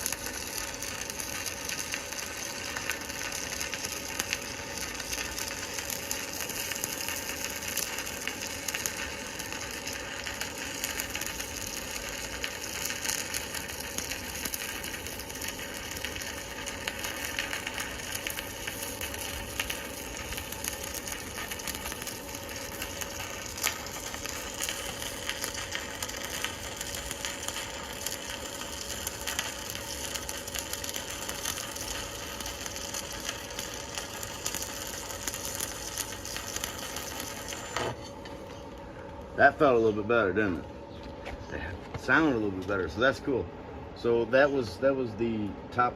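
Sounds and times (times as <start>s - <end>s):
arc welding crackle and sizzle: 0.0s - 43.4s, 44.0s - 45.9s.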